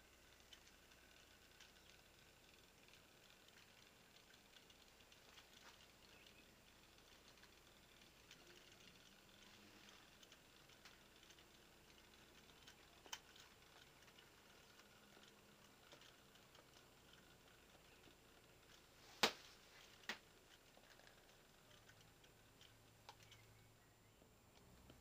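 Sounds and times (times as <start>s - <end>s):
faint low hum: 0.0s - 25.0s
small clicks: 0.0s - 25.0s
sharp clicks: 0.1s - 23.7s.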